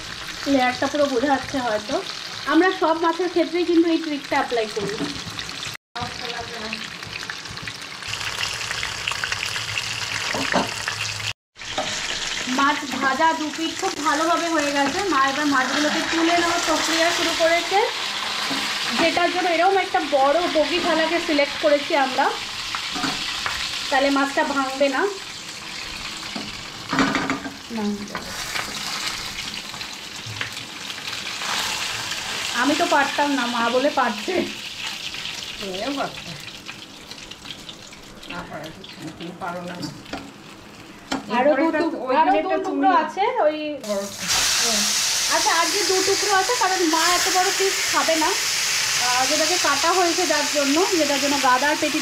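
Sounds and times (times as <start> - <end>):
fish sizzling in hot oil: 0.0 - 41.8, 43.8 - 52.0.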